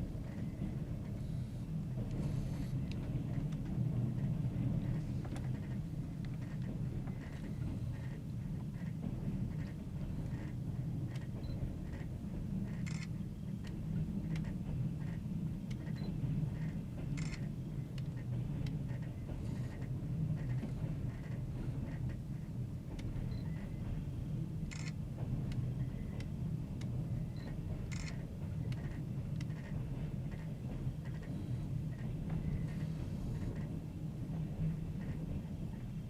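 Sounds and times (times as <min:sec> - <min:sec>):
train rumbling on rails: 0:00.0 - 0:36.0.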